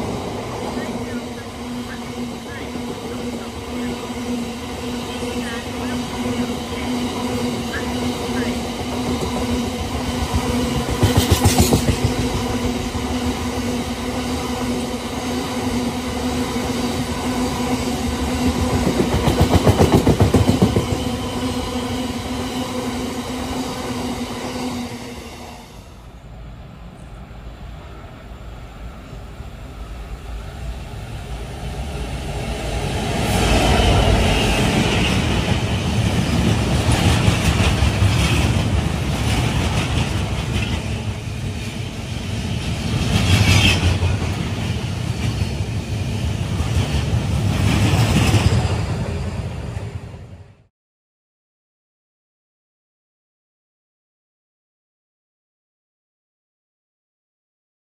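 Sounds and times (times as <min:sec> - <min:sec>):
freight train rumbling past: 0:00.0 - 0:50.7.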